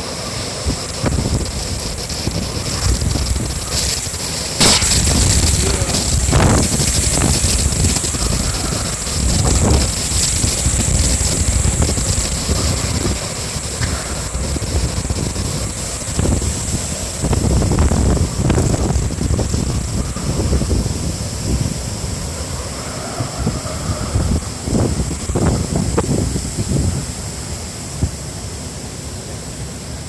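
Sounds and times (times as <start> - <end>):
strong wind buffeting microphone: 0.0 - 28.8
wind-driven rain hiss: 0.0 - 30.0.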